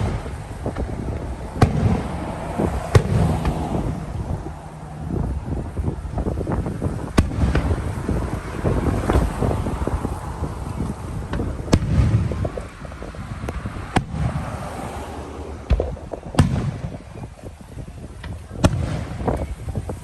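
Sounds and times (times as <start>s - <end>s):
fireworks bangs and crackles: 0.0s - 20.0s
wind rumble on microphone: 0.0s - 20.0s.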